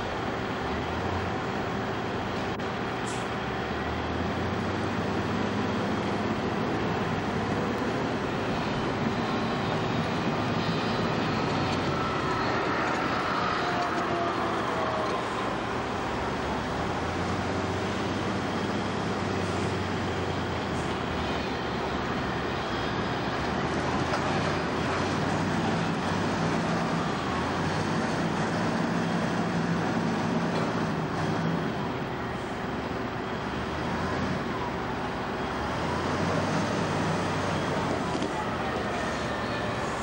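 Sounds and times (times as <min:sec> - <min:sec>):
truck diesel engine idling: 0:00.0 - 0:40.0
wheel loader engine: 0:00.0 - 0:40.0.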